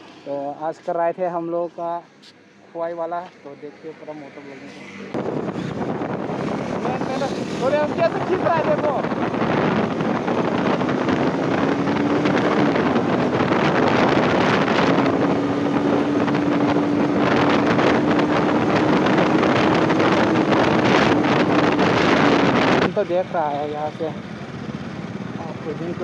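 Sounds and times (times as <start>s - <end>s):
motorcycle engine cruising: 0.0s - 26.0s
wind rushing over microphone: 0.0s - 26.0s.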